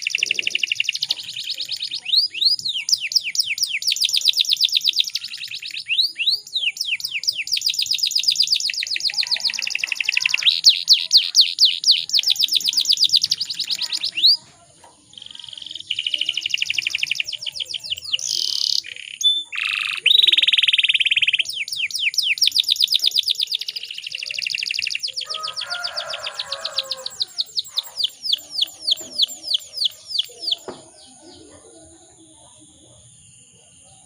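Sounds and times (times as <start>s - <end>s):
canary singing rolling trills: 0.0s - 34.0s.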